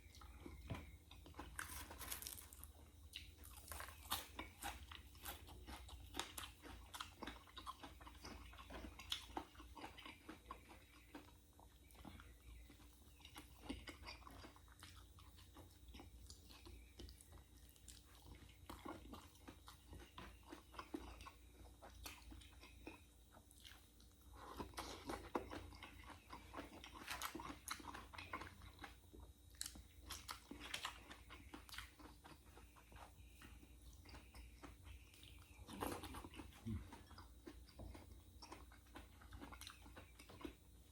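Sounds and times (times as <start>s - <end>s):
chewing and crunching crisp food: 0.0s - 40.9s.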